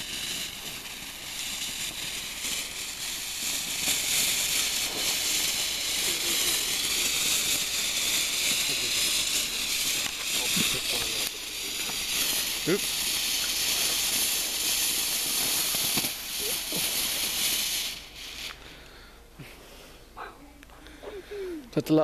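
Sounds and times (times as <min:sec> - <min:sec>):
firework fountain hissing: 0:00.0 - 0:22.0.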